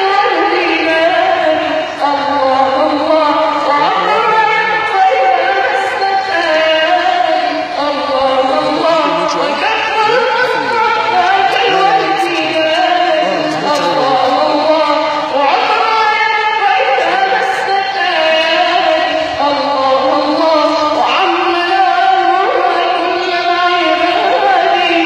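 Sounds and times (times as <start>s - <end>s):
boy singing religious chant: 0.0s - 25.0s.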